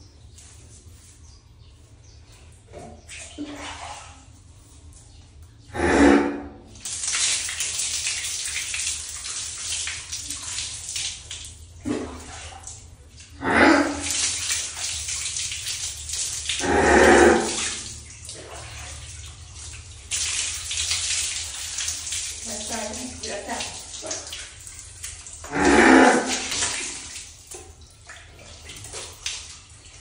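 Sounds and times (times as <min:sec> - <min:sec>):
water splashing onto tiled floor: 0:00.0 - 0:01.8, 0:06.7 - 0:30.0.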